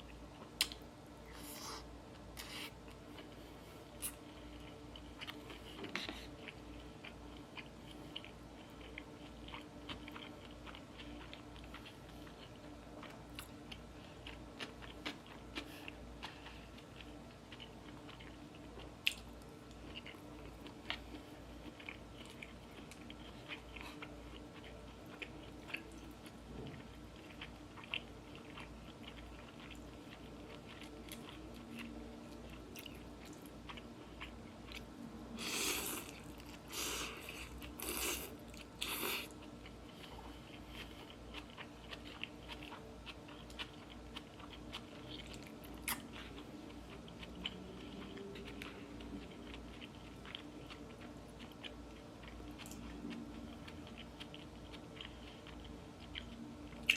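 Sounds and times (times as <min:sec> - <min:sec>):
person chewing: 0:00.0 - 0:56.9.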